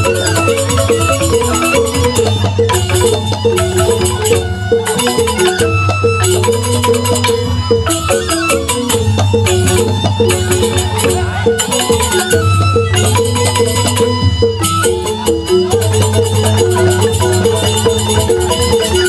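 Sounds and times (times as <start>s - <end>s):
bamboo flutes: 0.0s - 19.0s
hand drum: 0.0s - 19.0s
metallophones playing: 0.0s - 19.0s.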